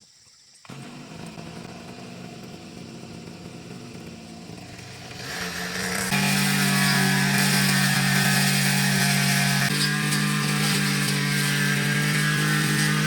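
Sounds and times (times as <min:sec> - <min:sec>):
brush cutter engine running: 0:00.7 - 0:13.0.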